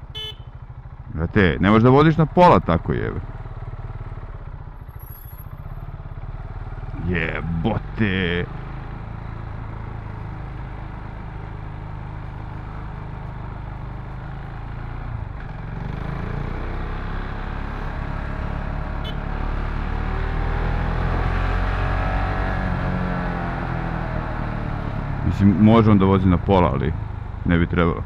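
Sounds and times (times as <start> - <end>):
motorcycle engine running: 0.0 - 20.5, 21.6 - 28.0.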